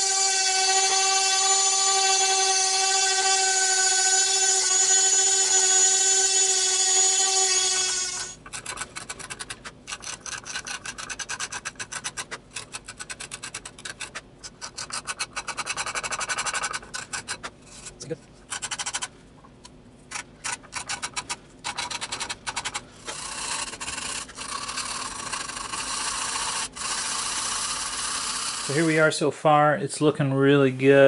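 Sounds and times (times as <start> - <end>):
rotary tool whining: 0.0 - 19.1, 20.1 - 29.1.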